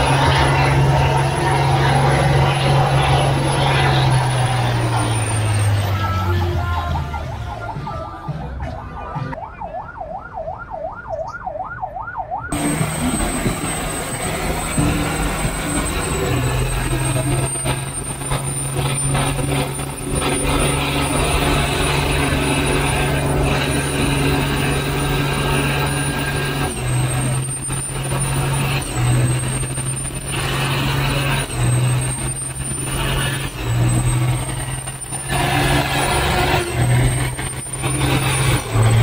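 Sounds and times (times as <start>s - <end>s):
spinning tyres rushing: 0.0s - 9.4s, 12.5s - 39.0s
truck engine at high revs: 0.0s - 9.4s, 12.5s - 39.0s
siren yelp wailing: 0.0s - 39.0s.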